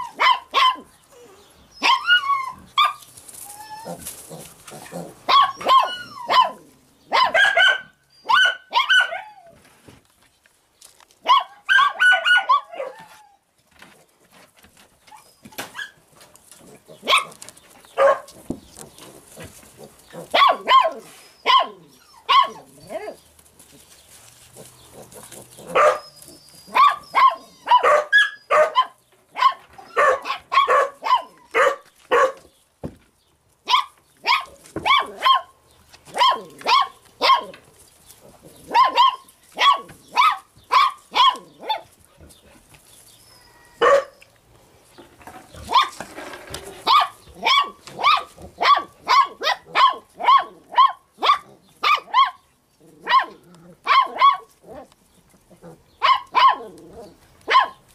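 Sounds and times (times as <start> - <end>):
puppies yapping: 0.0 - 9.6, 11.2 - 13.5, 15.0 - 32.5, 33.6 - 44.4, 45.4 - 57.9.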